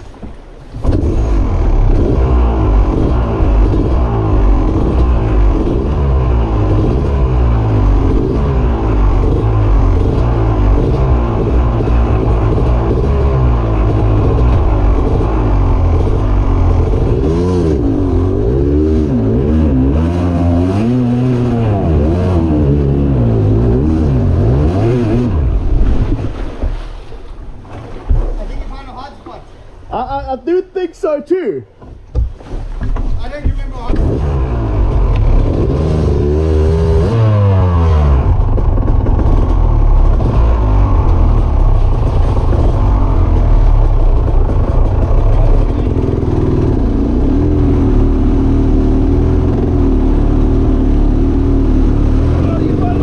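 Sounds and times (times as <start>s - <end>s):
engine revving at full throttle: 0.8s - 26.4s, 33.8s - 53.0s.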